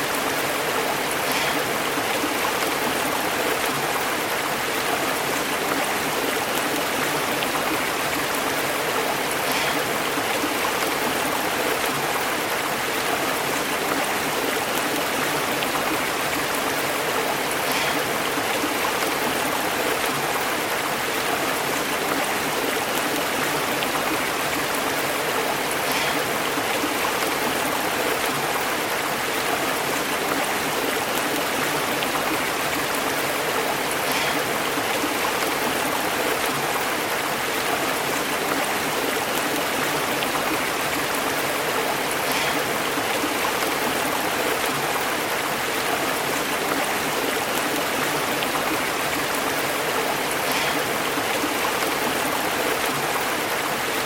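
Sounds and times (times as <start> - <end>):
stream burbling over rocks: 0.0 - 54.0.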